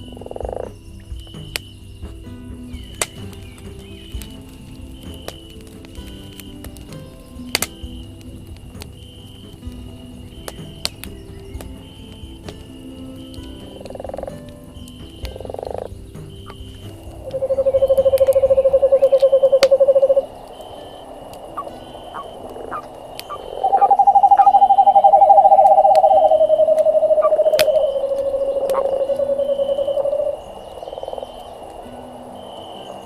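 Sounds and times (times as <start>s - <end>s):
campfire crackling: 0.0s - 33.0s
frogs trilling: 0.0s - 33.0s.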